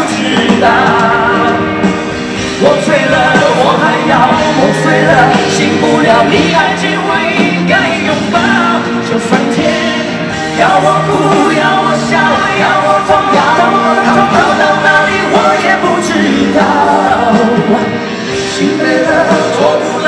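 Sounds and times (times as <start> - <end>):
live pop-rock band with singing: 0.0 - 20.0.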